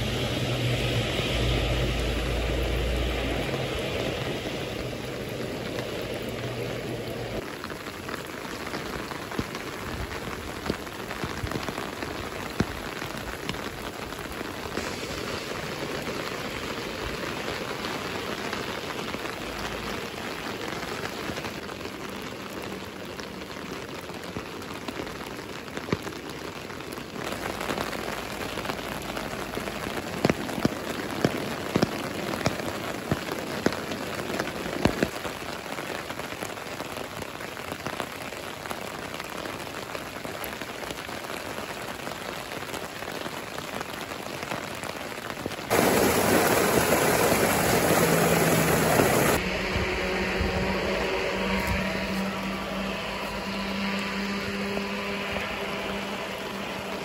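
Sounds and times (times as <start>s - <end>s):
sharp water drips: 0.0s - 49.5s, 50.6s - 57.0s
steady rain falling: 0.0s - 57.0s
water gushing from a drainpipe: 0.0s - 57.0s.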